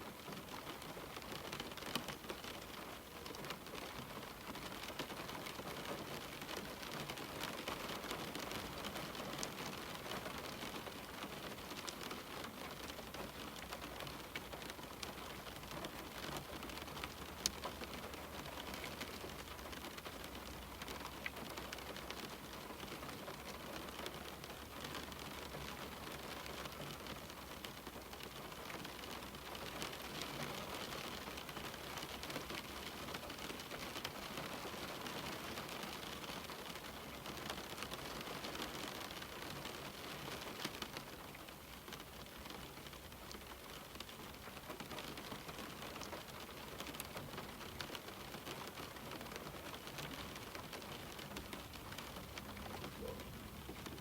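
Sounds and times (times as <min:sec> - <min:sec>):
rain on a window pane: 0:00.0 - 0:54.0
raindrop ticks: 0:00.3 - 0:54.0.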